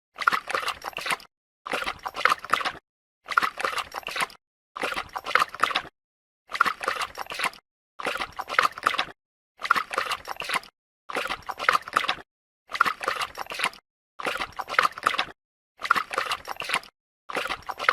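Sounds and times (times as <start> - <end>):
dog lapping water: 0.2 - 5.9, 6.5 - 17.9.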